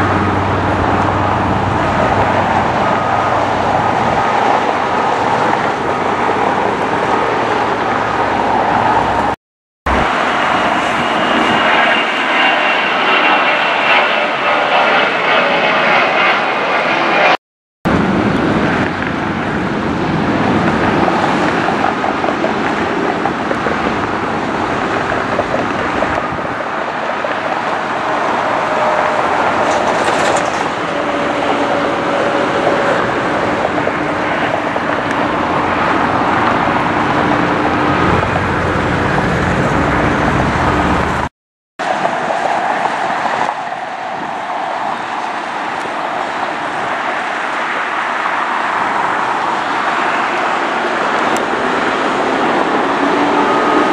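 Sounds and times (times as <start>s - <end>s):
jet engine noise with whine: 0.0s - 53.9s.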